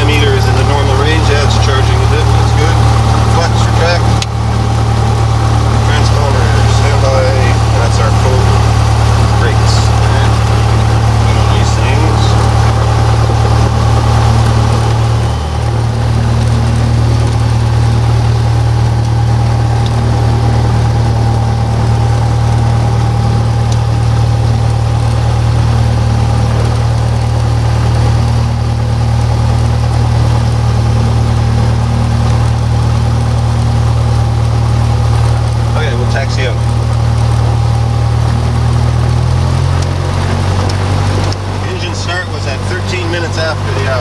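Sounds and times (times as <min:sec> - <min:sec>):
airplane engine drone in cabin: 0:00.0 - 0:44.0.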